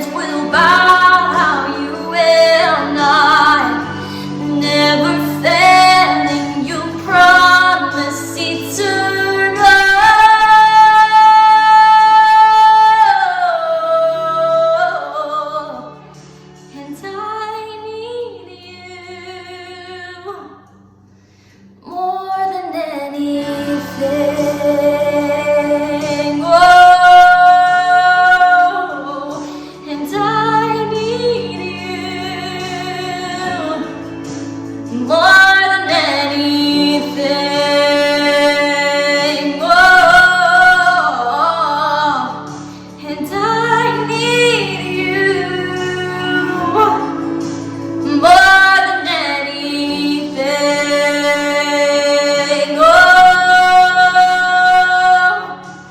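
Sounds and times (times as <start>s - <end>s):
woman singing worship song: 0.0s - 20.9s, 21.8s - 55.9s.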